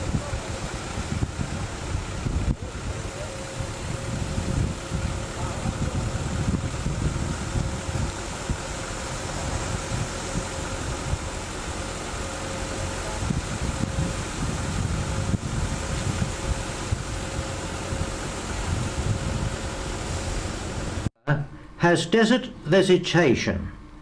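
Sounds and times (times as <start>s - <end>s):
wind buffeting microphone: 0.0s - 21.1s
faint steady hum: 0.0s - 24.0s.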